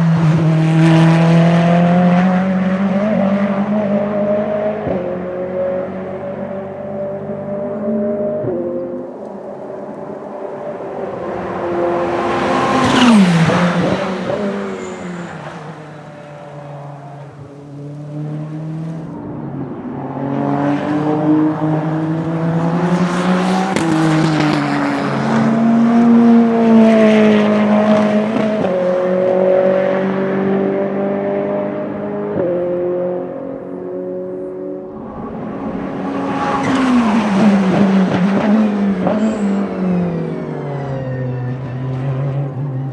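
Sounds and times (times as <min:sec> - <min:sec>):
race car engines at speed: 0:00.0 - 0:42.9
race car passing close: 0:00.0 - 0:42.9.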